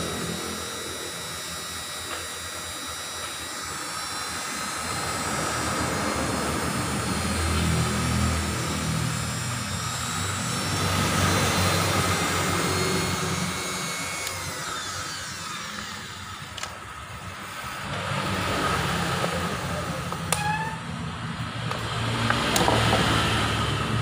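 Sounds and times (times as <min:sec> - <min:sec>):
engine running drone: 0:00.0 - 0:24.0.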